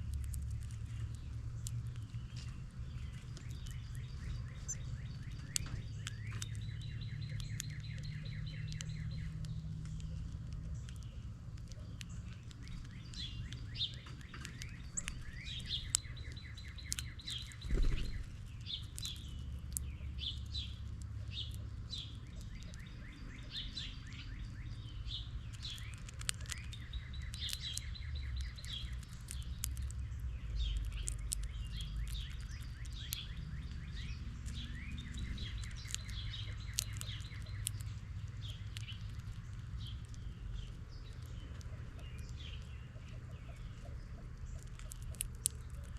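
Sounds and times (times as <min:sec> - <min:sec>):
songbirds chirping and trilling: 0:00.0 - 0:45.9
steady low rumble: 0:00.0 - 0:45.9.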